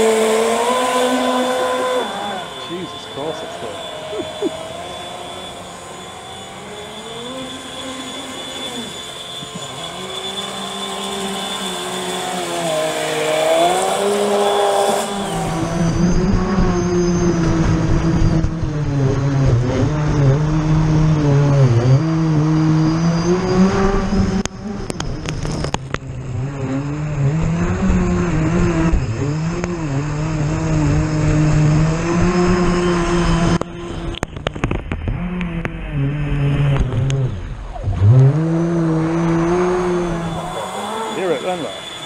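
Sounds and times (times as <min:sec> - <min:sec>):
electric motor whining: 0:00.0 - 0:42.0.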